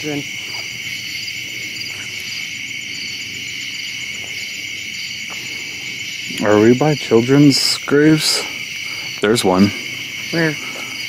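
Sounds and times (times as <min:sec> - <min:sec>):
insects chirring: 0:00.0 - 0:11.0
quick even insect pulses: 0:00.0 - 0:11.0.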